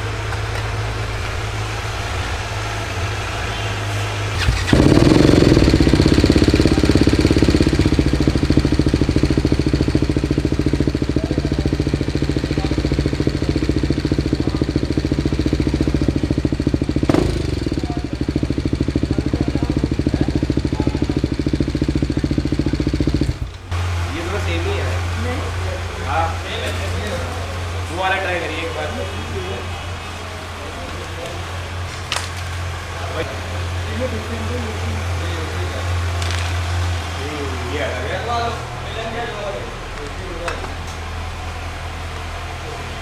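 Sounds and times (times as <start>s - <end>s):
motorcycle engine starting and idling: 0.0s - 43.0s
steady low hum: 0.0s - 43.0s.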